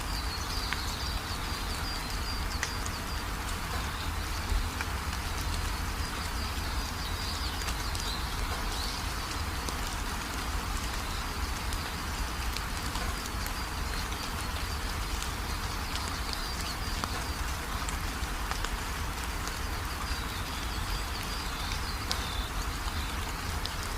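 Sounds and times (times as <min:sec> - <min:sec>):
rain drops pattering: 0:00.0 - 0:23.9.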